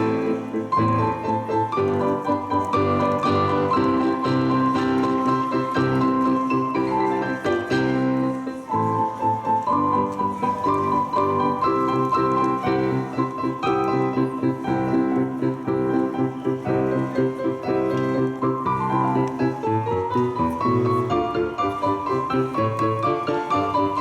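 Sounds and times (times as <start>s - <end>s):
piano played four hands: 0.0s - 24.0s.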